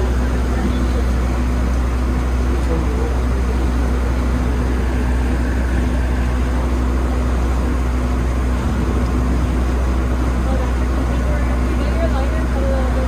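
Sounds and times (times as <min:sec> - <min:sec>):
boat engine droning: 0:00.0 - 0:13.0
steady hum: 0:00.0 - 0:13.0.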